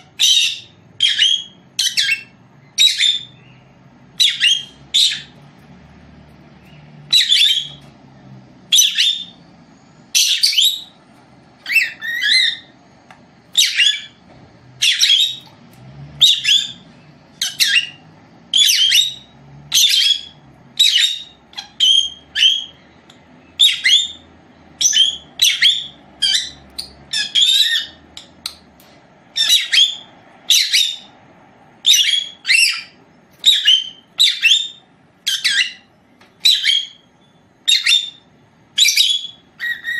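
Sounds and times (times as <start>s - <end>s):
lovebird chirping: 0.0s - 5.5s, 6.5s - 7.9s, 8.6s - 11.0s, 11.6s - 14.2s, 14.8s - 15.6s, 16.2s - 28.7s, 29.3s - 31.2s, 31.8s - 39.9s.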